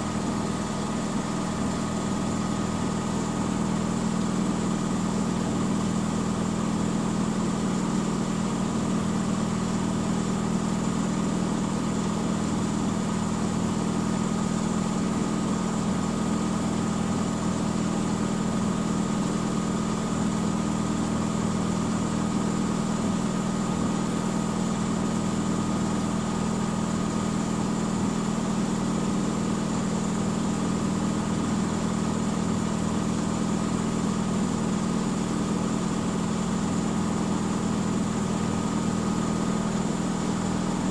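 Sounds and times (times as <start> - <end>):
washing machine drum spinning: 0.0 - 20.6, 21.2 - 40.9.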